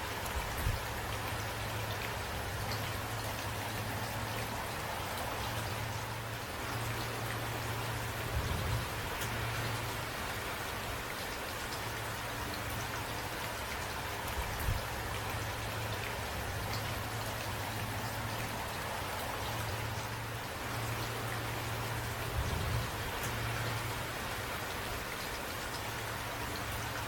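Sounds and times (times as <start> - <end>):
steady rainfall: 0.0 - 27.0.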